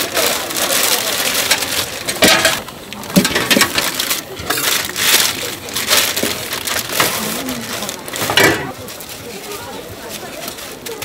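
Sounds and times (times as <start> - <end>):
plastic sheet crinkling: 0.0 - 11.0.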